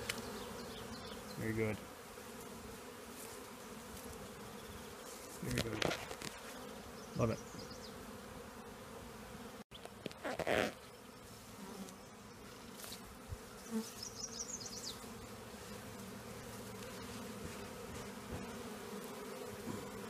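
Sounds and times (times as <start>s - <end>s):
bee swarm humming: 0.0s - 20.0s.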